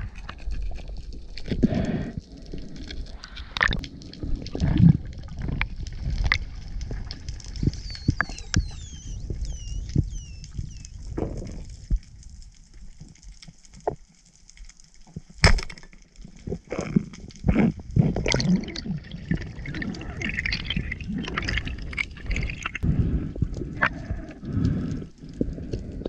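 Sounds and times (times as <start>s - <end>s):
underwater gurgling: 0.0s - 14.1s, 16.2s - 26.0s.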